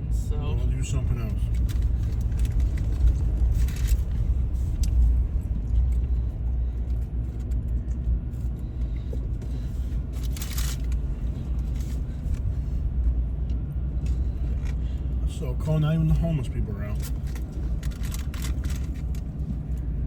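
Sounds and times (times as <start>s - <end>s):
truck cabin road and engine rumble: 0.0s - 20.0s.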